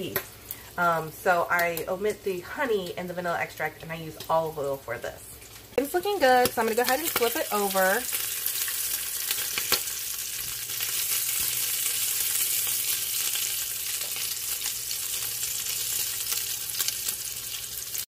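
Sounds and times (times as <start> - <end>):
bacon sizzling in pot: 0.0 - 18.0.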